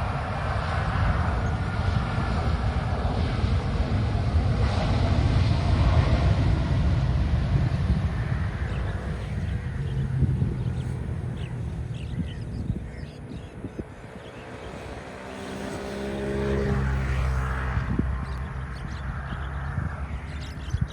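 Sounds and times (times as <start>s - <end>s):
airliner engine rumble and whine: 0.0s - 20.9s.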